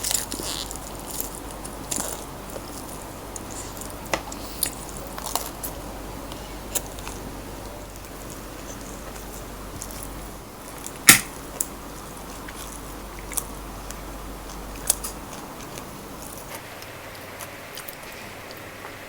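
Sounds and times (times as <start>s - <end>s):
chewing: 0.0s - 19.0s
crunching fried chicken: 0.0s - 19.0s.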